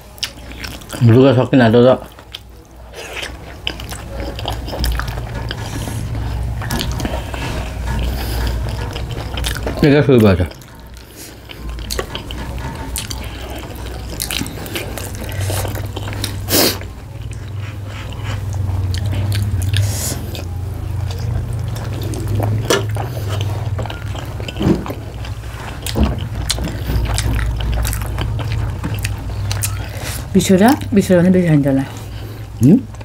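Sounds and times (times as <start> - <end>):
low steady hum: 0.0 - 33.0
chewing and mouth smacks: 0.1 - 1.1, 2.0 - 30.9.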